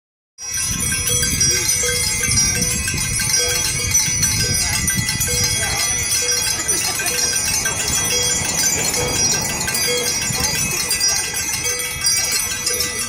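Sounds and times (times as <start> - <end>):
many bells ringing: 0.4 - 13.0.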